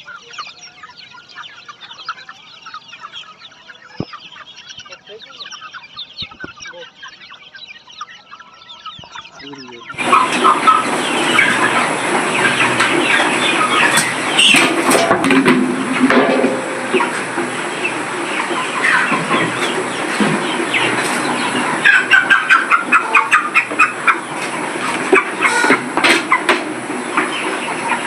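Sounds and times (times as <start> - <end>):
chickens clucking and peeping: 0.0 - 28.0.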